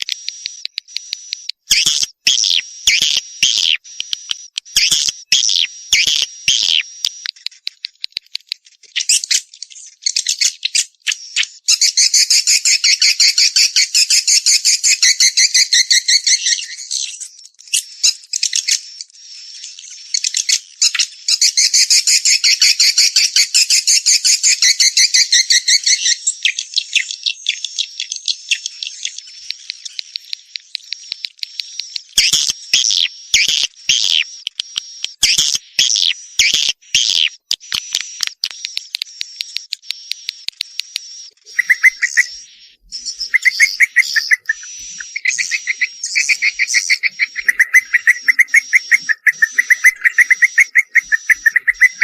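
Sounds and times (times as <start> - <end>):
swiftlet calls clicking and trilling: 0.0 - 52.0.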